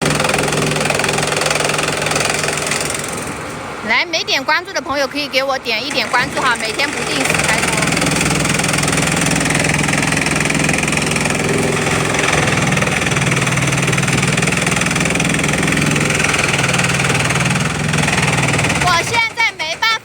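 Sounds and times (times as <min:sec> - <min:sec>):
chipping machine drone: 0:00.0 - 0:04.3, 0:05.6 - 0:20.0.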